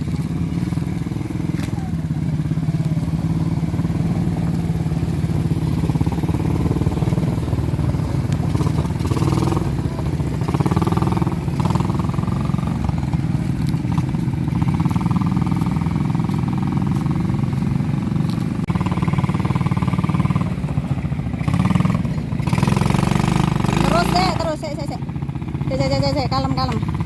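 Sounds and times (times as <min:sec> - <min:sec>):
small atv engine running: 0:00.0 - 0:27.0.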